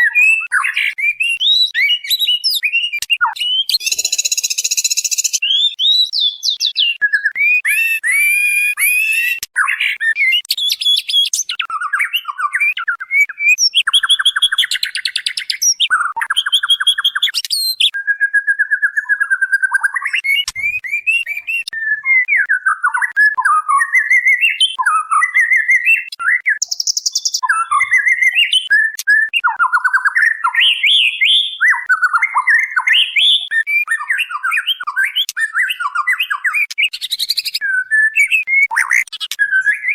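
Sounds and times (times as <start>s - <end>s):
bird whistling varied phrases: 0.0s - 39.9s.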